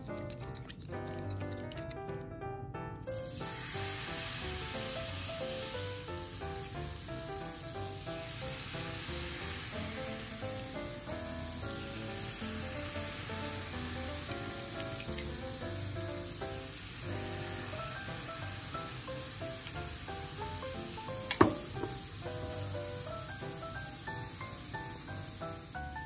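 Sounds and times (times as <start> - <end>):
background music: 0.0 - 26.0
batter sizzling in hot oil: 3.0 - 26.0.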